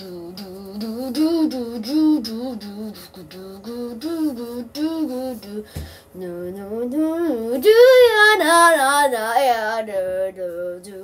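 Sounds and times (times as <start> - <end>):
high voice singing: 0.0 - 11.0.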